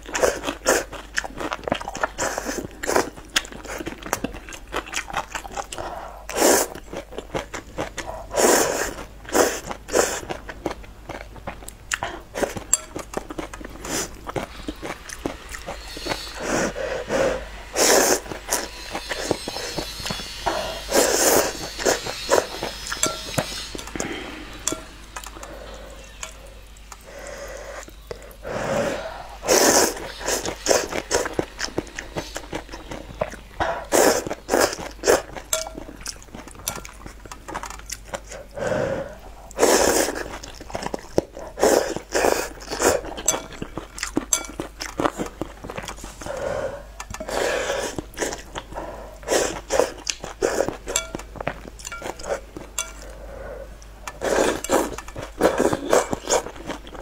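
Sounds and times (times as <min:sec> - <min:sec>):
wet mouth clicks chewing: 0:00.0 - 0:16.4, 0:18.1 - 0:28.4, 0:29.5 - 0:57.0
noodles being slurped: 0:00.0 - 0:57.0.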